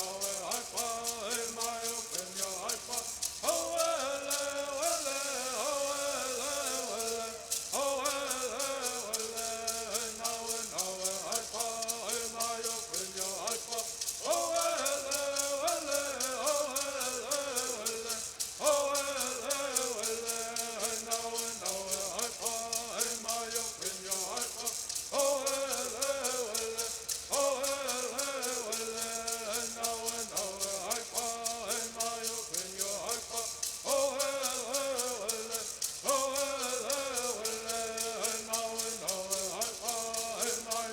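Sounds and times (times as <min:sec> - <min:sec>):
gourd rattles shaking: 0:00.0 - 0:40.9
voices singing in unison: 0:00.0 - 0:40.9.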